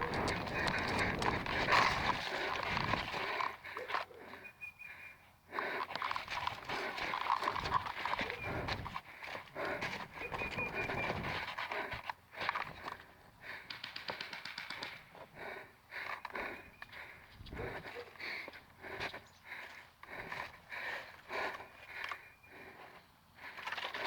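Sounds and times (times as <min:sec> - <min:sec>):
person panting: 0:00.0 - 0:24.0.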